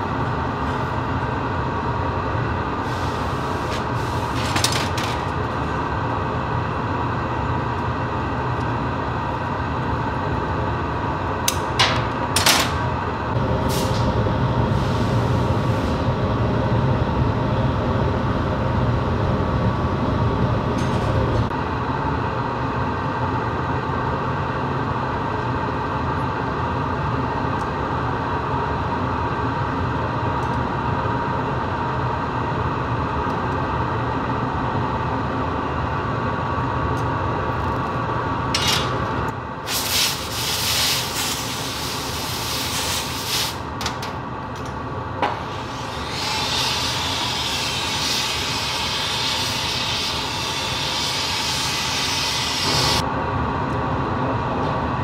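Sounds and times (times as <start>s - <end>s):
gas burner roaring: 0.0s - 55.0s.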